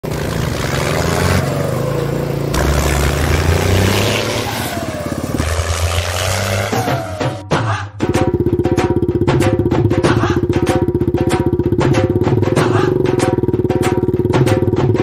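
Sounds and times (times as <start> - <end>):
small engine running: 0.0 - 7.4, 8.0 - 15.0.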